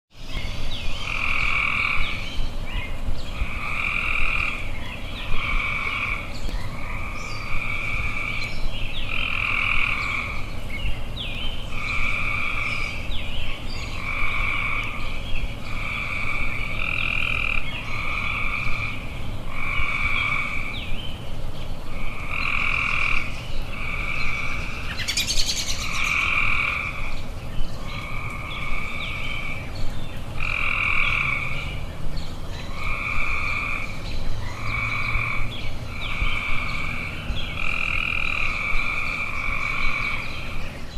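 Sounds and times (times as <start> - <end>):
frogs croaking: 0.1 - 40.9.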